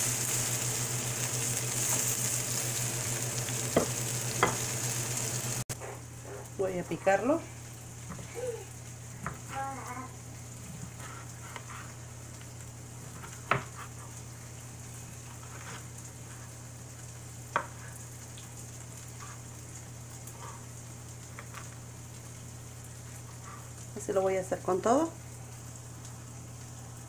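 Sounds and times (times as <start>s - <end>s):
chicken sizzling in pan: 0.0s - 27.0s.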